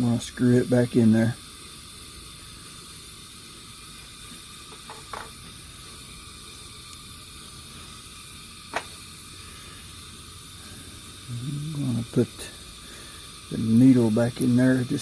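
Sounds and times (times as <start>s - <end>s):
stove burner hissing: 0.0s - 15.0s.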